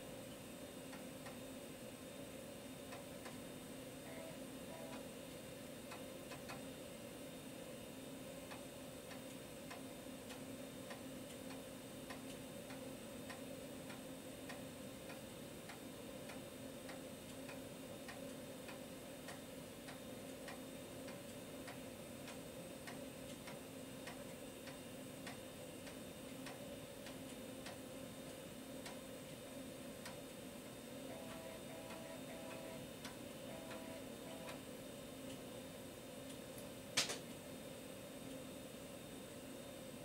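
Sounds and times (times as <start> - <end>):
floppy drive hum: 0.0 - 40.0.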